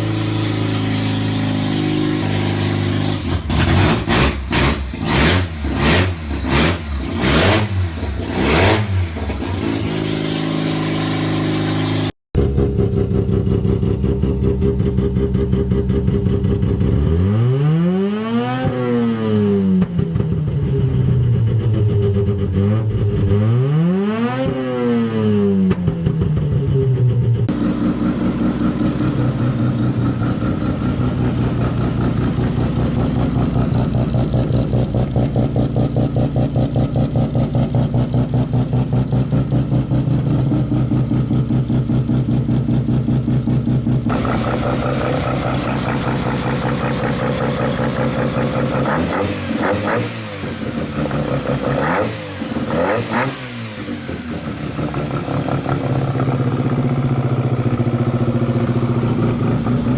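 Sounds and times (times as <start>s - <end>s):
rotary engine idling and revving: 0.0s - 59.9s.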